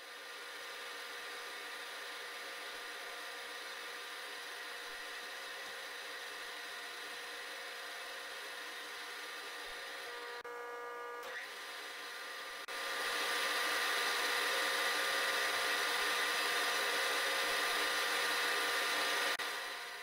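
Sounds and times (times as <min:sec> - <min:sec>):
milling machine hum and whine: 0:00.0 - 0:20.0.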